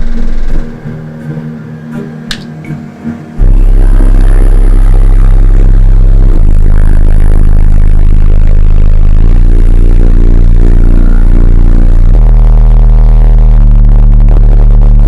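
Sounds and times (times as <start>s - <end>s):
deep bass from subwoofer: 0.0s - 1.1s, 2.3s - 15.0s.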